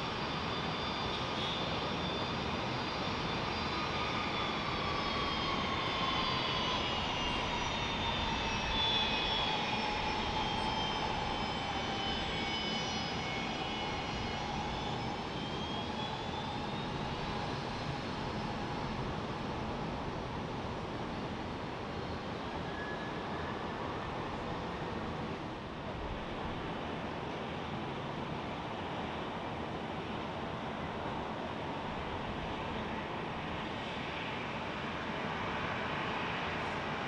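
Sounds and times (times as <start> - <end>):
jet engines whining at taxi power: 0.0 - 37.0.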